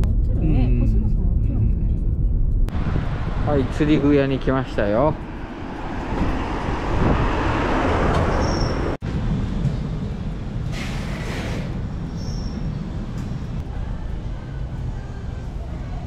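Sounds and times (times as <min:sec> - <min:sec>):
traffic noise: 0:00.8 - 0:16.0.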